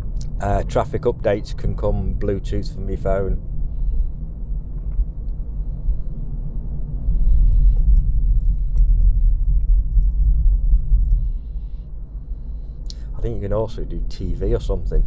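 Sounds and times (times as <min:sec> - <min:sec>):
car engine rumble: 0:00.0 - 0:15.0
road noise inside car: 0:00.0 - 0:15.0.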